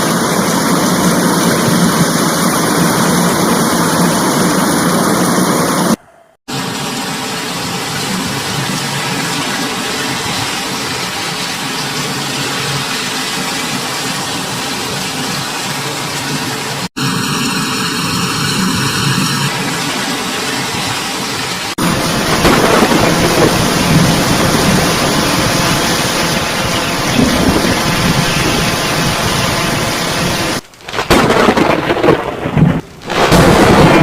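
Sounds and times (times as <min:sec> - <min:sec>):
wind: 0:00.0 - 0:17.1, 0:19.5 - 0:34.0
heavy rain: 0:00.0 - 0:34.0.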